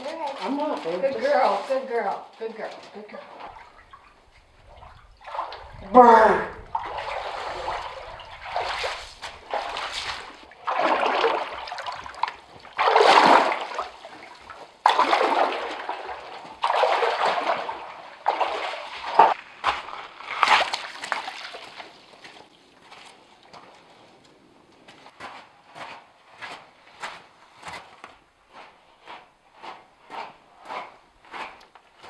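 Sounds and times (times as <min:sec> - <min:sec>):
footsteps splashing in shallow water: 0:03.2 - 0:05.9, 0:06.6 - 0:32.0.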